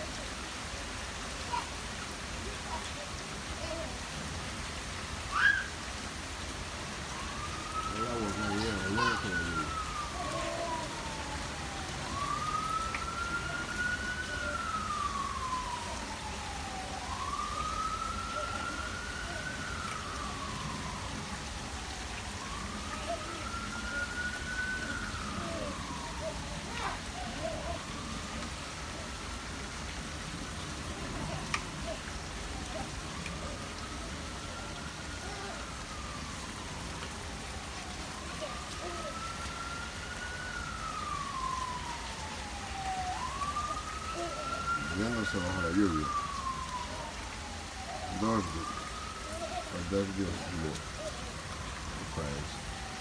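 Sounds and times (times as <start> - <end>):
rain hissing: 0.0 - 53.0
siren wailing: 4.2 - 53.0.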